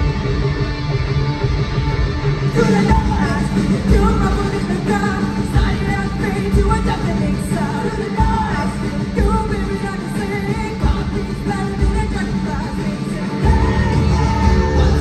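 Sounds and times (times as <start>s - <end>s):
live hard rock band: 0.0s - 15.0s
lead vocal singing: 2.5s - 15.0s.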